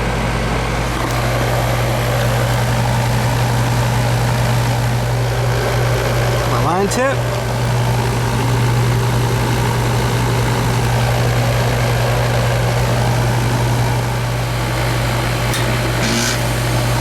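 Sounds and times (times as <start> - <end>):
heat pump hum: 0.0 - 17.0.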